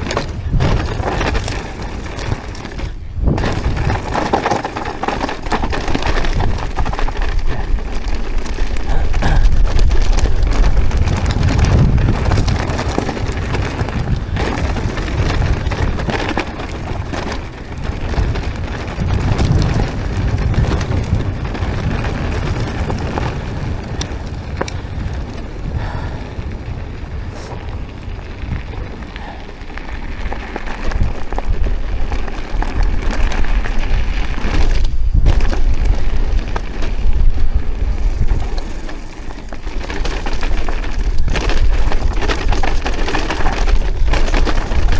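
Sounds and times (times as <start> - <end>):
bike rattling clicks: 0.0 - 44.9
tyres crackling over loose ground: 0.0 - 44.9
wind rumble on microphone: 0.0 - 44.9.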